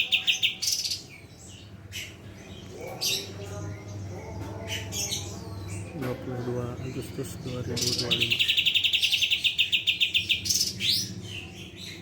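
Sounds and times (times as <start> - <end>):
songbird trilling chirps: 0.0 - 12.0.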